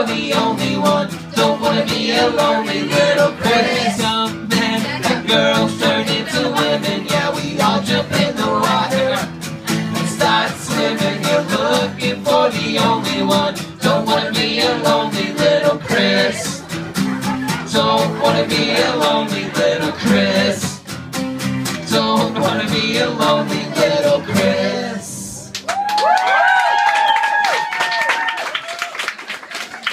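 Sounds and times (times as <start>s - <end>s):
man singing: 0.0s - 16.8s, 17.4s - 20.9s, 21.6s - 25.5s
acoustic guitars strumming: 0.0s - 25.6s.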